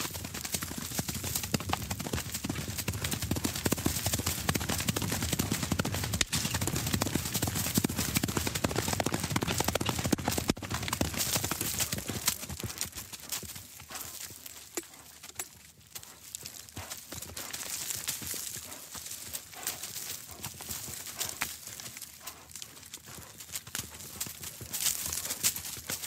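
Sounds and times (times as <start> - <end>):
muffled hoofbeats on grass: 0.0 - 26.0.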